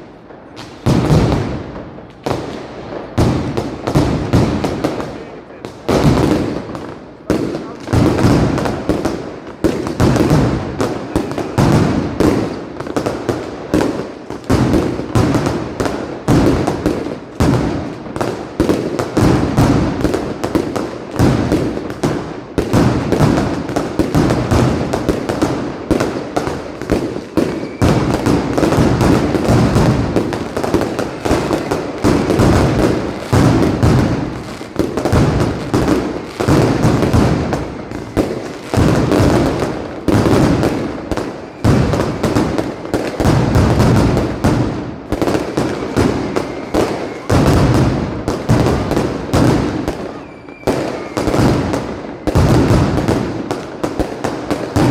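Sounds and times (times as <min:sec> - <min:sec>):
firecracker bangs in rapid succession: 0:00.0 - 0:54.9.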